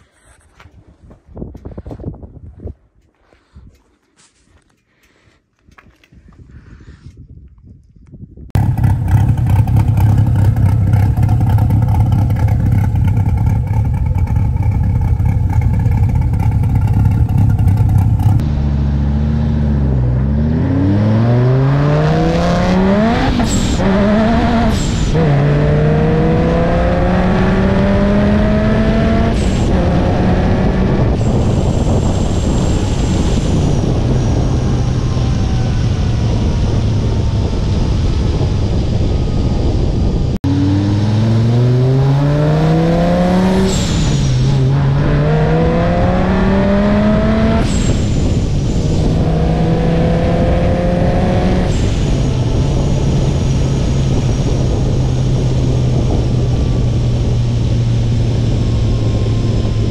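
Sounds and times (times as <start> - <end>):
sports car engine accelerating: 8.6 - 59.9.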